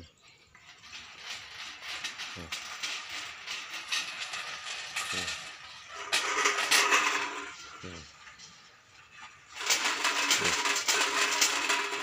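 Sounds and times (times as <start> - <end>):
tin cans rattling on rope: 0.0 - 12.0.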